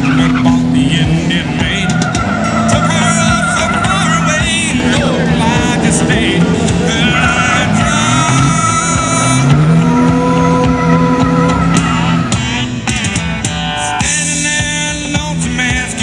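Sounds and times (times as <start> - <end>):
song with singing and guitar: 0.0 - 16.0.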